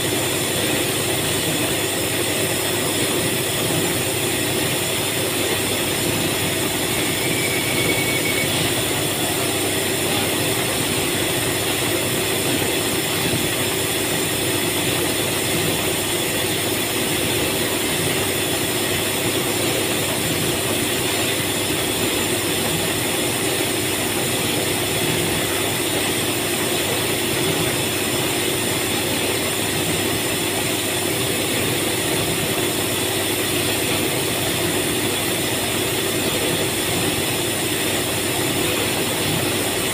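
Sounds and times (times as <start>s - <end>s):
factory machinery drone: 0.0s - 39.9s.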